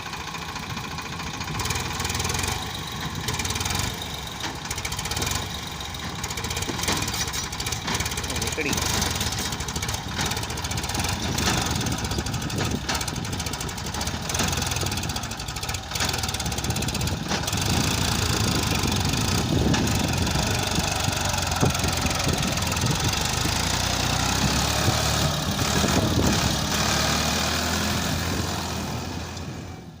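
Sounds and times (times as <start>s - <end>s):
diesel engine clattering: 0.0s - 30.0s.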